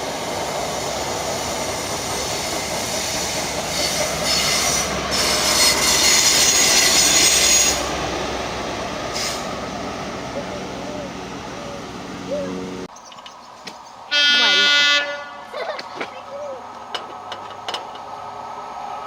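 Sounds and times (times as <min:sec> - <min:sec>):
train passing: 0:00.0 - 0:19.0
wheels squealing on rails: 0:00.0 - 0:19.0.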